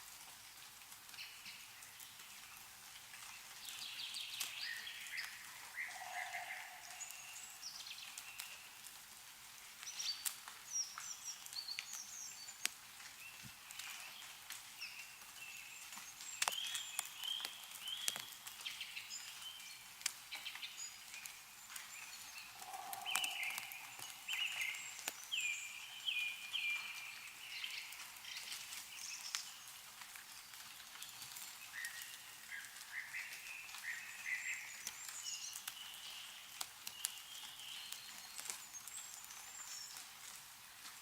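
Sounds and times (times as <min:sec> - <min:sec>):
meltwater dripping: 0:00.0 - 0:41.0
small birds chirping: 0:01.1 - 0:08.9, 0:09.8 - 0:40.4.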